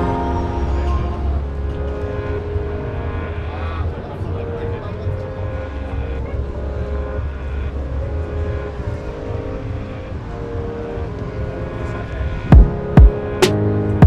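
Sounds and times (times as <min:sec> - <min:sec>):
large engine droning: 0:00.0 - 0:14.0.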